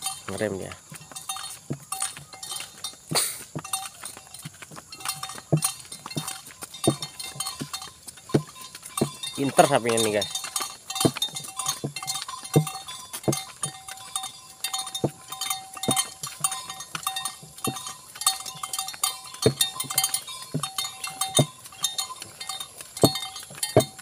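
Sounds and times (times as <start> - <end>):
thin ringing tone: 0.0 - 24.0
wooden cart knocking: 0.0 - 24.0.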